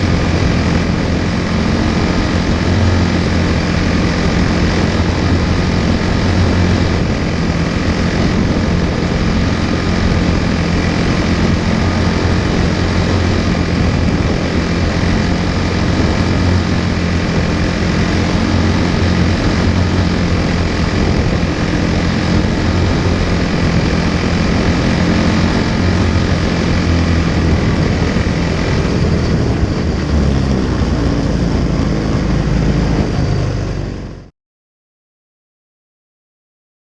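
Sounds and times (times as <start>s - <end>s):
small racing car engine running: 0.0s - 34.2s.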